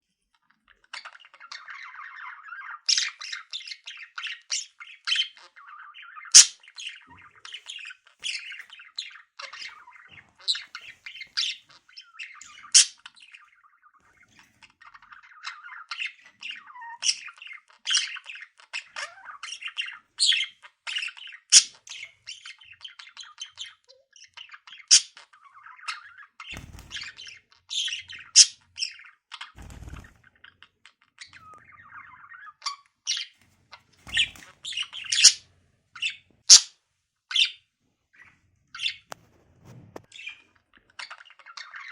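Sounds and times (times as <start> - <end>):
budgie chattering and squawking: 0.3 - 37.5, 40.0 - 41.9.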